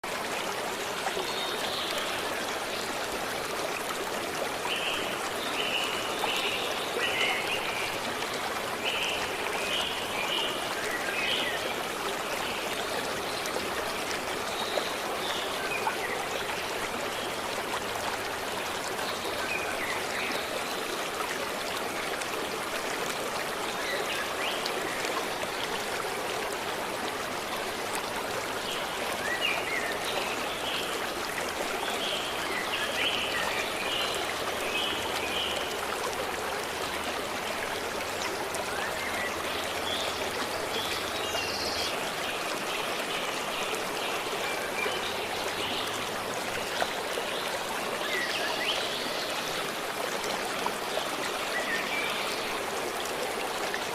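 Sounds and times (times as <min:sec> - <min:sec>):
stream running: 0:00.0 - 0:53.9.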